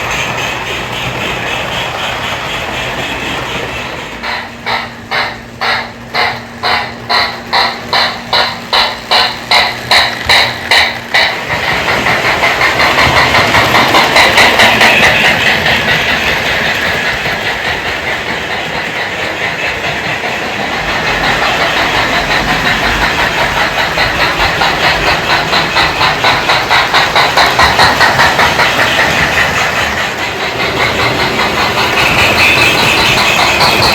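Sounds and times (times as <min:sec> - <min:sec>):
model steam train chuffing: 0:00.0 - 0:33.9.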